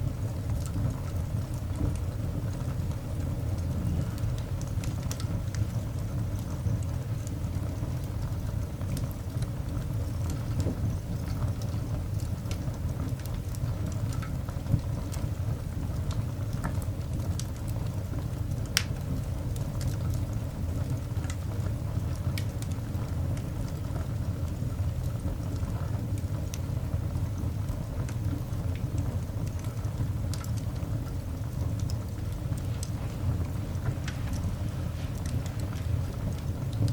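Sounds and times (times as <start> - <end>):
coal fire rumbling: 0.0 - 36.9
fire crackles and pops: 0.0 - 36.9.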